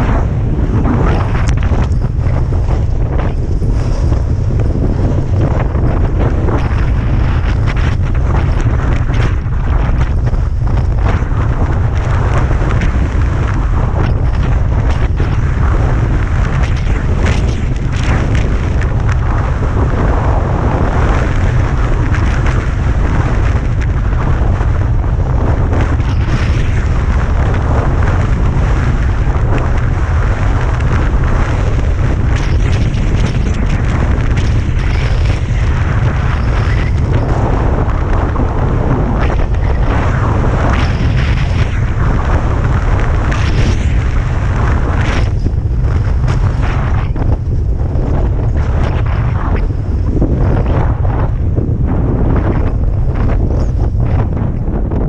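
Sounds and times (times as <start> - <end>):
gusty wind buffeting microphone: 0.0 - 55.0.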